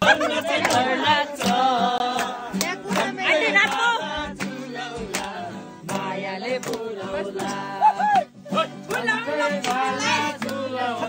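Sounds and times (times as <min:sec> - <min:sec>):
people singing together: 0:00.0 - 0:11.0
strummed acoustic guitar: 0:00.0 - 0:11.0.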